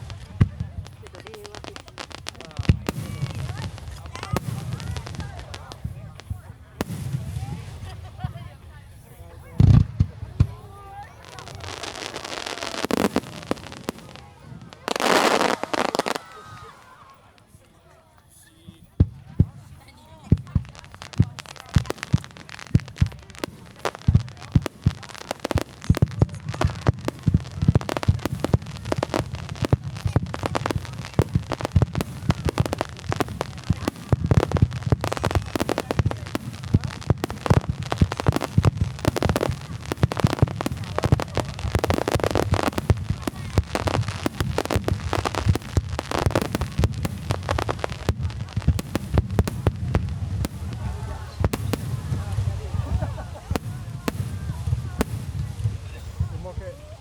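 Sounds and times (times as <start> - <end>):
fireworks crackling: 0.0 - 57.0
fireworks launching and bursting: 0.0 - 57.0.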